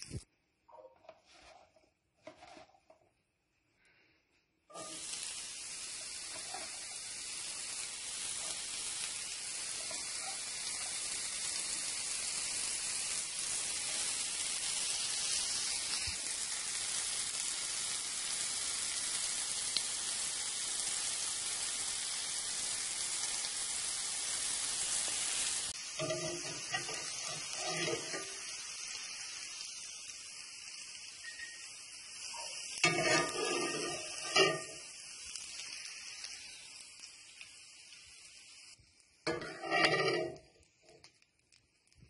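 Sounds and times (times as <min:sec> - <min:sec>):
mushrooms sizzling in a skillet: 0:04.7 - 0:42.0.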